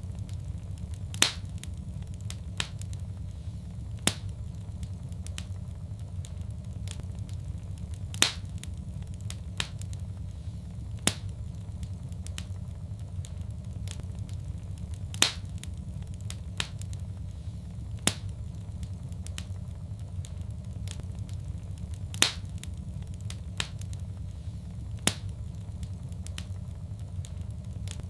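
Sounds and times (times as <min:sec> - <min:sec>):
sharp pops from fire: 0:00.0 - 0:28.0
wood fire crackling: 0:00.0 - 0:28.0.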